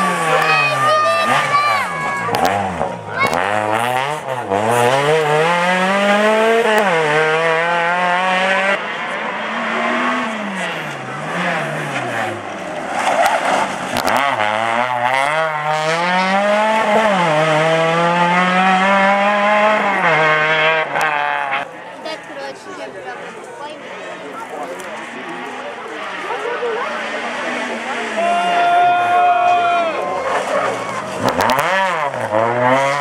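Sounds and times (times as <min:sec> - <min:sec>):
rally car engine accelerating: 0:00.0 - 0:33.0.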